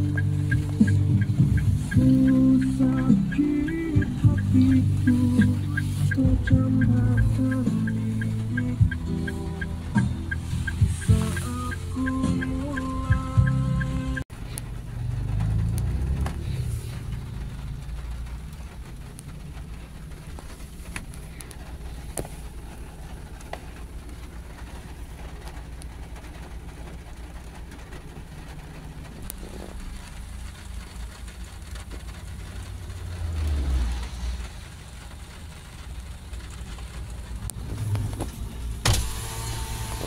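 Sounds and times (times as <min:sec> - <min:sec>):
car engine and road rumble: 0:00.0 - 0:40.0
deep rumble: 0:00.0 - 0:40.0
rain hissing on windscreen: 0:00.0 - 0:40.0.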